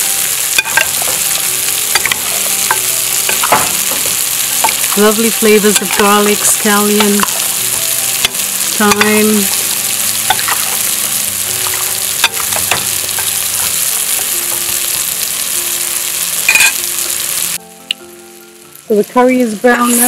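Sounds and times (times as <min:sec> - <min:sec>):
paste sizzling in oil: 0:00.0 - 0:17.6, 0:18.4 - 0:20.0.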